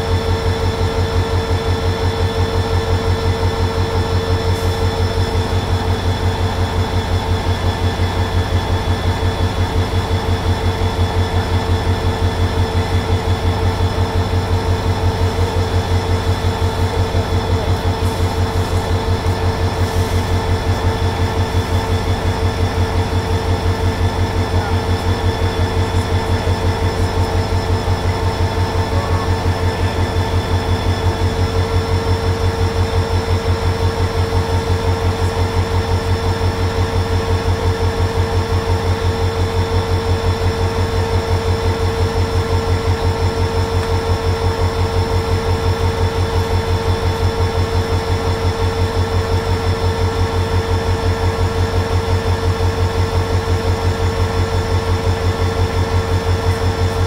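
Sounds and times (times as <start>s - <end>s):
constant whine: 0.0s - 57.0s
diesel engine idling: 0.0s - 57.0s.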